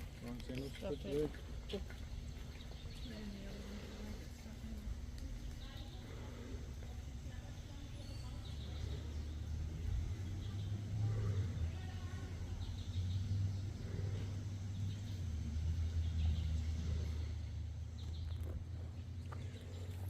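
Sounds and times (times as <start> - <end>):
low uneven rumble: 0.0 - 20.0.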